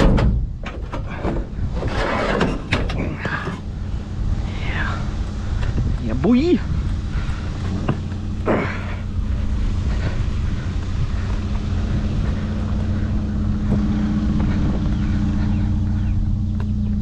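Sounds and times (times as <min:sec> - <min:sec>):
vehicle engine idling: 0:00.1 - 0:17.0.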